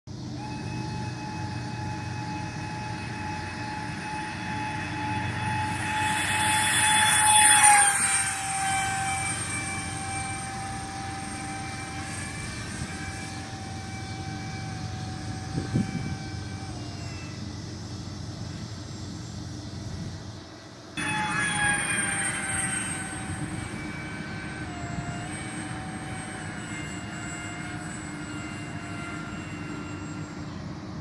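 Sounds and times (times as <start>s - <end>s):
model airliner fans whining: 0.1s - 31.0s.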